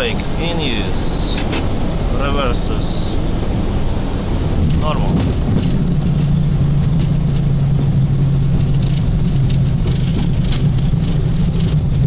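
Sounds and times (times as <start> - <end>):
airflow and engine rumble: 0.0 - 12.0.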